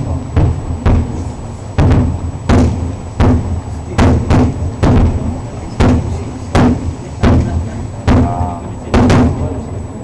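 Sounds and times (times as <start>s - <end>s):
firework bangs: 0.0s - 9.7s
low rolling rumble: 0.0s - 10.0s.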